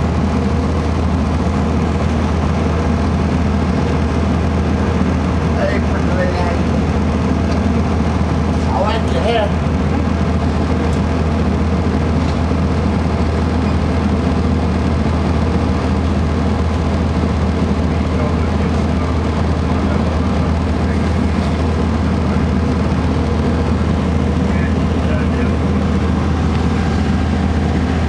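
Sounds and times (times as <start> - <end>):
bus diesel engine idling: 0.0 - 28.0.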